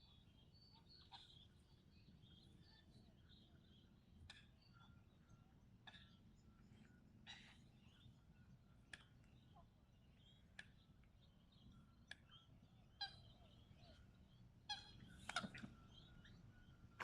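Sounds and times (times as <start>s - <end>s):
soft bird chirps: 0.0s - 17.0s.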